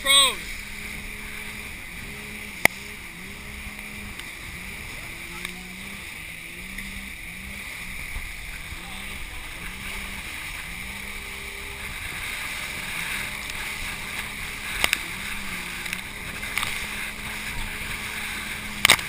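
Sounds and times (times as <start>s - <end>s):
motorboat engine running: 0.0s - 19.0s
water rushing: 0.0s - 19.0s.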